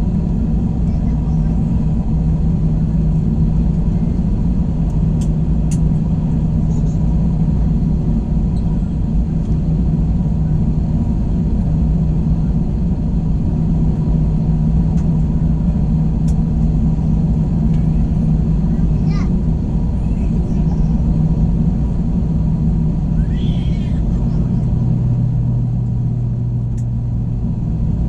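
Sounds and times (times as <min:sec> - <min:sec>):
airplane cabin drone: 0:00.0 - 0:28.0.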